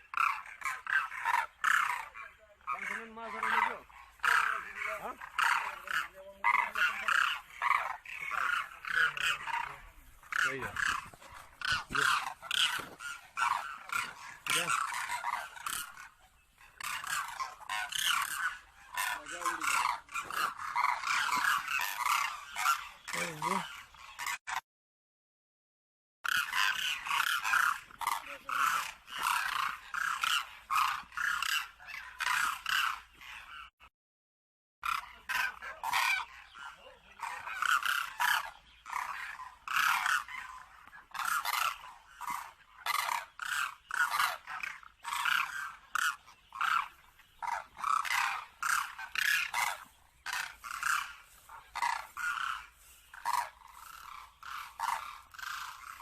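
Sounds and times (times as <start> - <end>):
cranes calling: 0.0 - 24.6, 26.2 - 33.8, 34.8 - 56.0.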